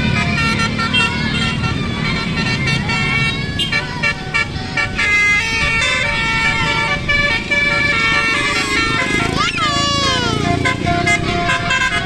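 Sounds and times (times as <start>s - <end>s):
multi-tone bus horn tune: 0.0s - 12.0s
street traffic: 0.0s - 12.0s.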